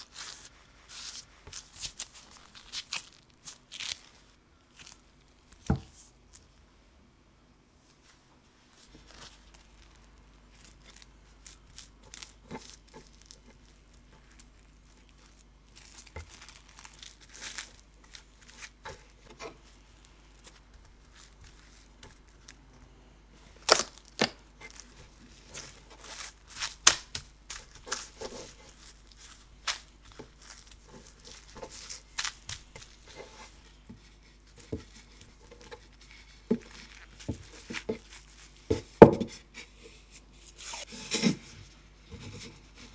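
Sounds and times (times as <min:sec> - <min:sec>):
plastic cling film crinkling: 0:00.0 - 0:06.5, 0:08.7 - 0:22.6, 0:23.4 - 0:39.1.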